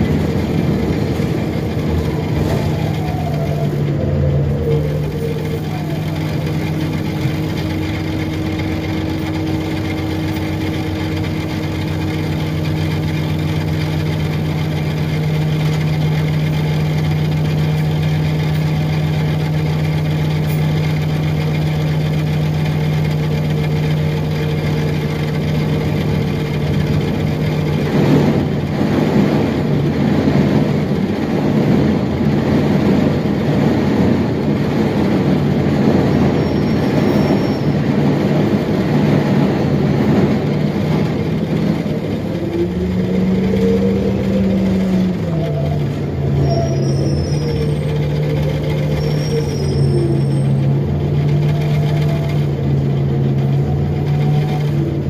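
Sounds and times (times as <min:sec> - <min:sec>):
bus engine hum and rumble: 0:00.0 - 0:55.0.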